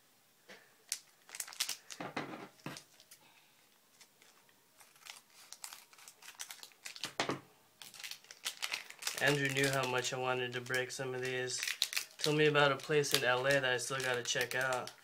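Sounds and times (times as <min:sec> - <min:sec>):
wrapper crinkling and tearing: 0:00.9 - 0:02.0, 0:02.7 - 0:03.2, 0:03.9 - 0:07.2, 0:07.8 - 0:15.0.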